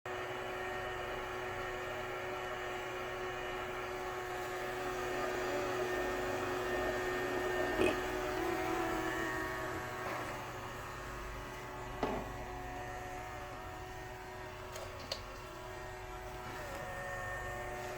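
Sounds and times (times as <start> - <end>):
robot vacuum motor hum: 0.1 - 17.9.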